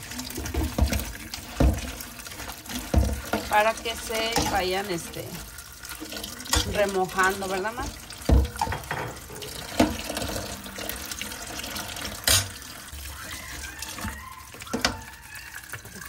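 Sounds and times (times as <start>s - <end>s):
tap water pouring into pot: 0.0s - 16.0s.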